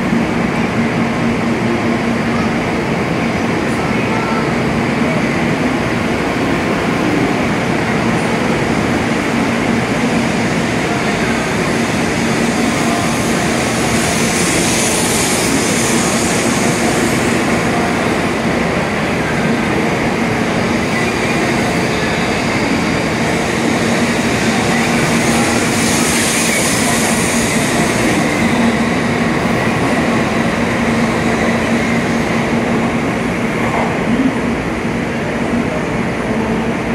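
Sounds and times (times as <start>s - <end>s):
electric train hum: 0.0s - 36.9s
wheel and rail noise: 1.7s - 36.9s.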